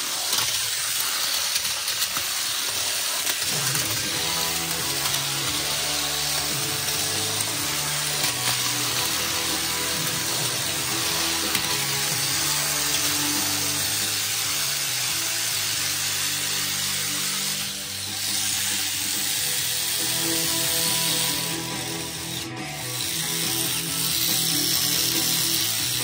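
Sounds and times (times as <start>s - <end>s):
toys clashing in plastic arena: 0.0s - 22.4s
toy motors whirring: 0.0s - 26.0s.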